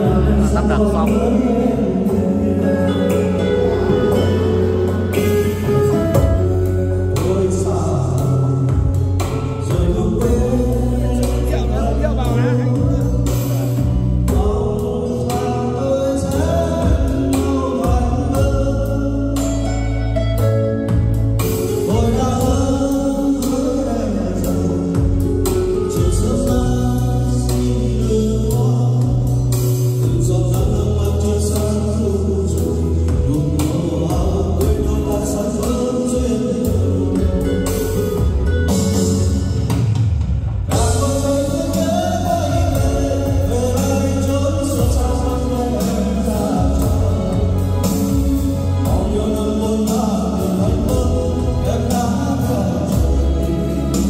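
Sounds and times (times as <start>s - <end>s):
person singing: 0.0s - 39.7s, 40.7s - 54.0s
heavy bass line: 0.0s - 54.0s.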